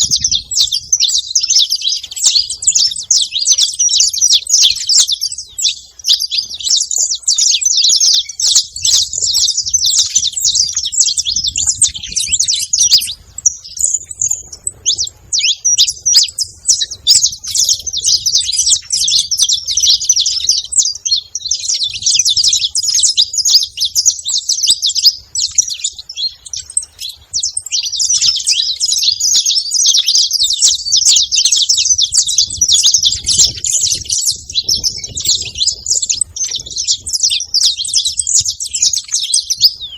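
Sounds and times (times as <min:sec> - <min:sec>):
finches chattering: 0:00.0 - 0:39.9.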